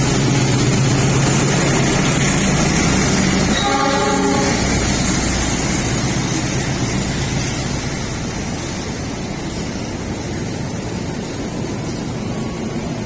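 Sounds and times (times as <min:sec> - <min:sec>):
train passing on rails: 0:00.0 - 0:13.0.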